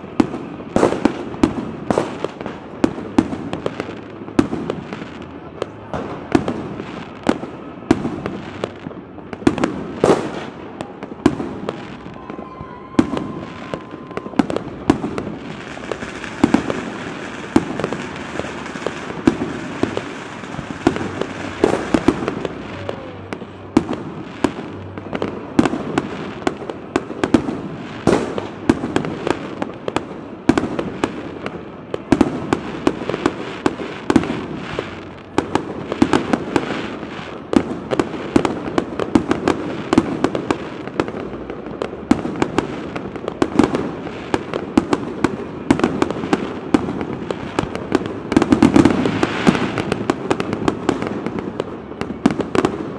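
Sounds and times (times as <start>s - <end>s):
fireworks bursts and bangs: 0.0s - 52.9s.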